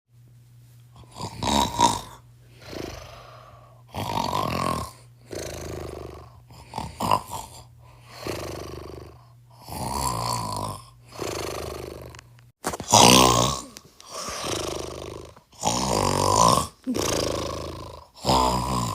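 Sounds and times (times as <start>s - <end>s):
steady low hum: 0.1s - 18.9s
person snoring: 1.0s - 18.9s.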